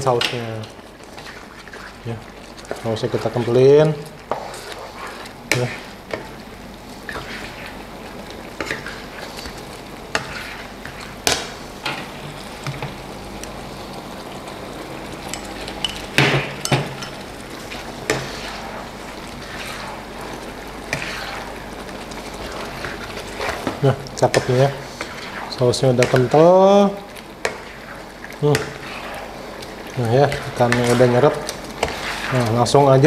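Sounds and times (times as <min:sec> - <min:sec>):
spatula stirring simmering sauce: 0:00.2 - 0:11.6, 0:15.0 - 0:33.0.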